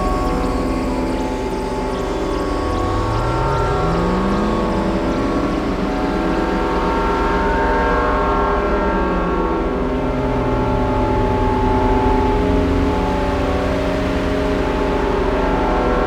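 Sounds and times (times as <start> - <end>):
synthesizer drone: 0.0 - 16.0.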